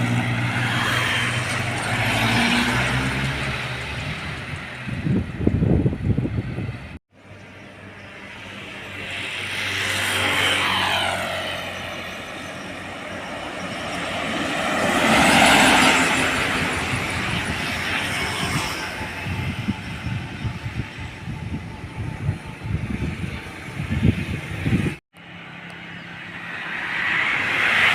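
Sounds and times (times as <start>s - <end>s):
heavy trucks passing: 0.0s - 27.9s.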